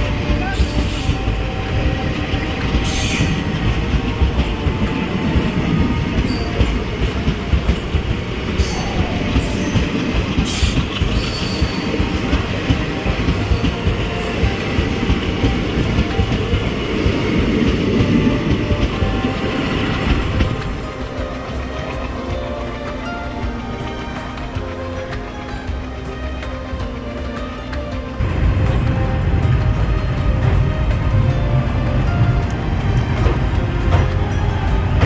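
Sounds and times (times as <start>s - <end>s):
rhythmic clickety-clack: 0.0s - 35.0s
train wheels rumbling on rails: 0.0s - 35.0s.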